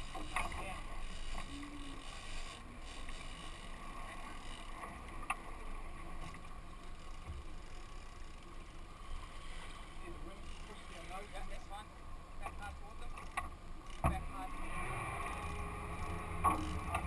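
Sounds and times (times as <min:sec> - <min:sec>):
boat engine running: 0:00.0 - 0:17.0
faint steady whine: 0:00.0 - 0:17.0
water rushing along hull: 0:00.0 - 0:17.0.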